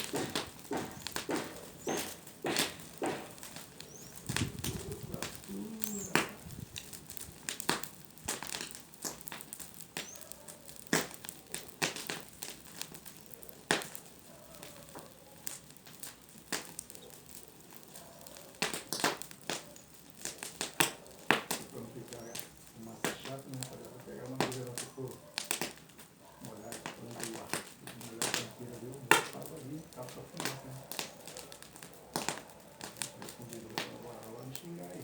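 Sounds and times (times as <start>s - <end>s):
bonfire crackling and popping: 0.0s - 35.0s.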